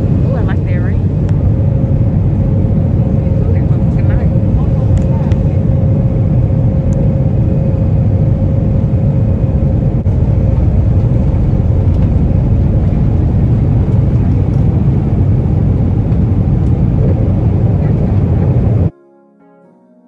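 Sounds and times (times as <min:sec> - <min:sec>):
airliner cabin rumble: 0:00.0 - 0:18.9.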